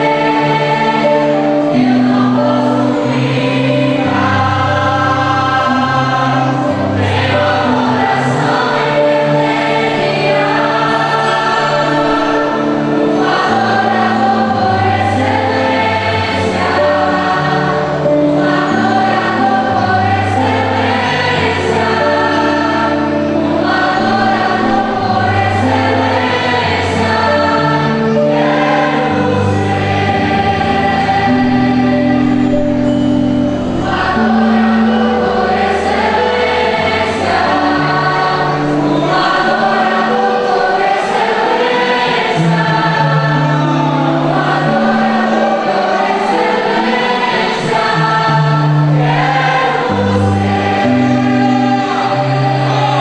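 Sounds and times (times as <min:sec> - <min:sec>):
choir singing gospel: 0:00.0 - 0:53.0.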